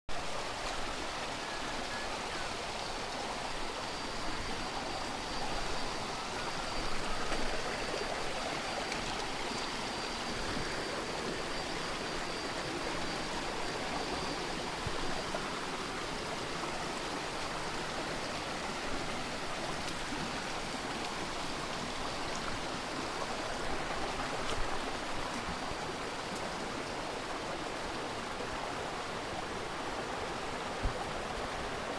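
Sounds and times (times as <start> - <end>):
stream water rushing: 0.1 - 31.9.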